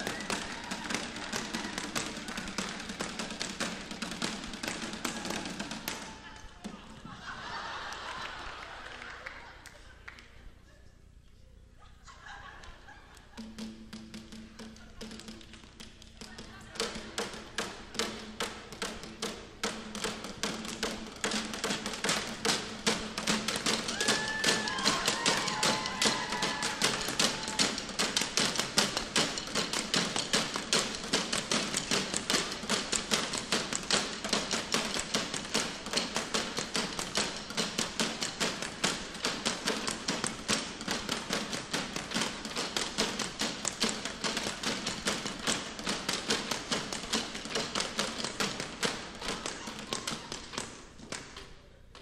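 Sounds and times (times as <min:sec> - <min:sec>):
sticks clacking and tapping floor: 0:00.0 - 0:06.2, 0:13.2 - 0:52.0.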